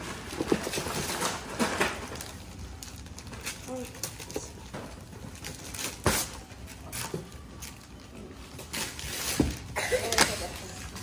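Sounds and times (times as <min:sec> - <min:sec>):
wrapping paper tearing and rustling: 0:00.0 - 0:11.0.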